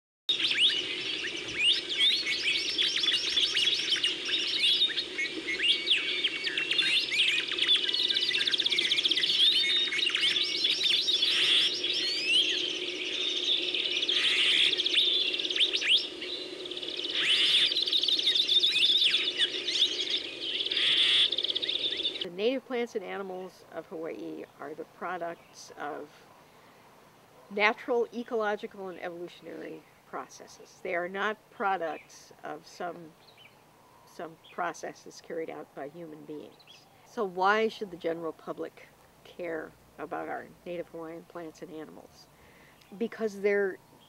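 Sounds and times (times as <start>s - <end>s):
birds chirping and trilling: 0.3s - 44.0s
low steady hum: 0.6s - 44.0s.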